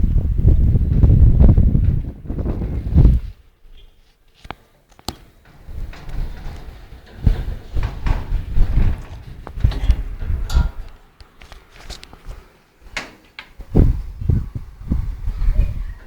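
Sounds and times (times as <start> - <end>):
wind buffeting microphone: 0.0 - 3.6, 5.4 - 13.0, 13.6 - 16.0.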